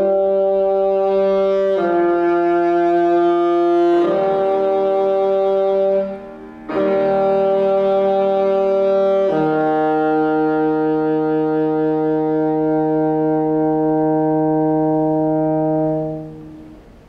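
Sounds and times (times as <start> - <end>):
saxophone holding low note: 0.0 - 17.0.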